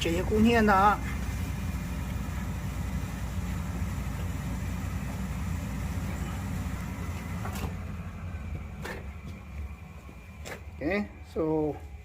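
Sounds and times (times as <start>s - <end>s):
gas boiler rumble: 0.0s - 12.0s.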